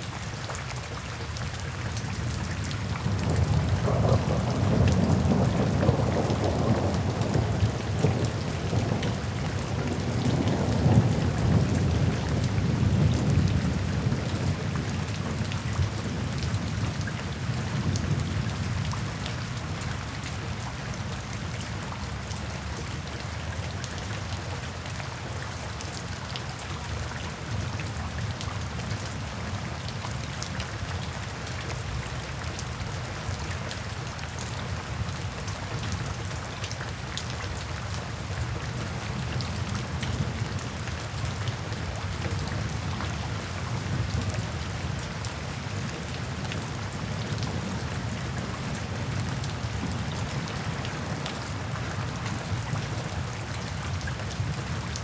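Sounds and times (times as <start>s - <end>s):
rain on a tin roof: 0.0s - 55.0s.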